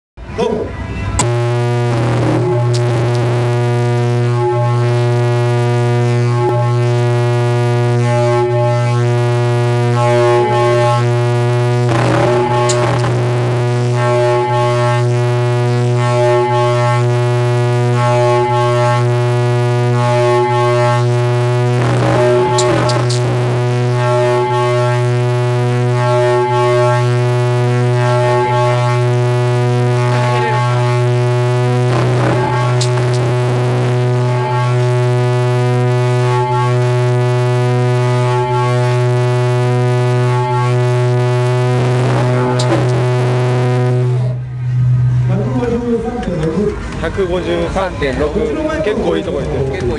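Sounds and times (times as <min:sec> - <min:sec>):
loud low bass tone: 0:00.2 - 0:47.1.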